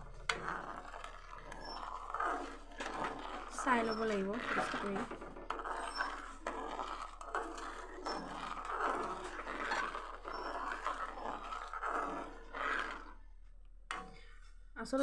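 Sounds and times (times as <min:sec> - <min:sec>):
metal ladle scraping pot: 0:00.0 - 0:14.7.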